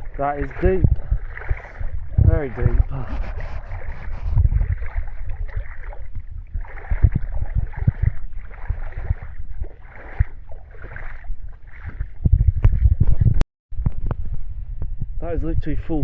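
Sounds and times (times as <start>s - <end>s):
footsteps squelching in water: 0.0s - 13.4s
wind rumble on microphone: 0.0s - 16.0s.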